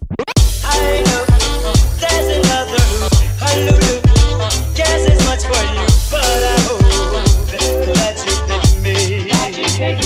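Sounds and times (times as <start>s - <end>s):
hip-hop background music: 0.1s - 10.0s.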